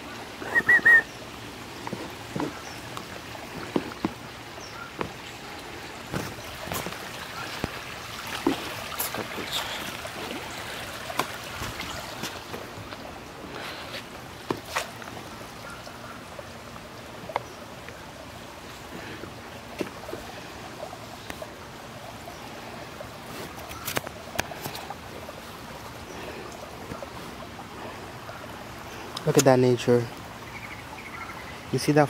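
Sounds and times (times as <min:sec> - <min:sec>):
creek trickling over rocks: 0:00.0 - 0:32.0.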